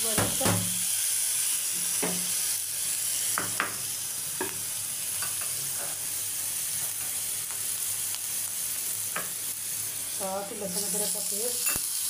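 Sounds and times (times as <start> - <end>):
onions and tomatoes sizzling: 0.0 - 12.0.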